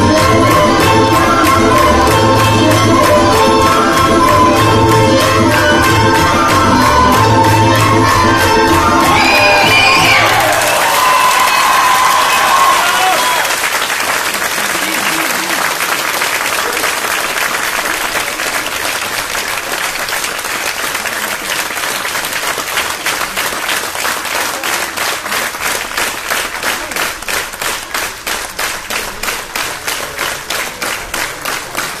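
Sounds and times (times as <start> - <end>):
audience applauding: 0.0 - 32.0
rhythmic clapping in unison: 0.0 - 32.0.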